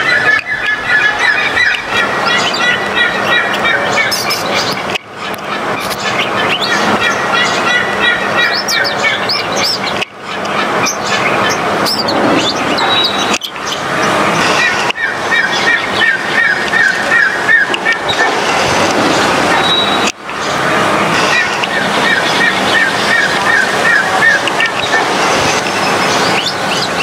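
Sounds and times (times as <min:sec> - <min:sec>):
small birds chirping: 0:00.0 - 0:18.3, 0:21.2 - 0:27.0
loud steady rushing noise: 0:00.0 - 0:27.0.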